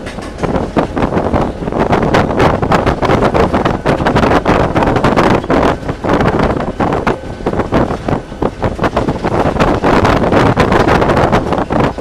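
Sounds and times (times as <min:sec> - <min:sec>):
diesel locomotive rumble: 0:00.0 - 0:12.0
wind buffeting microphone: 0:00.0 - 0:12.0.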